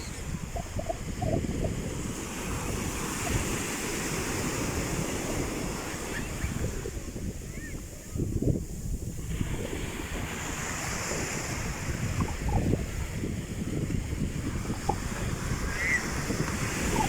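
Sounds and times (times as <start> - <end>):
sea waves washing onto shore: 0.0 - 17.0
wind buffeting microphone: 0.0 - 17.0.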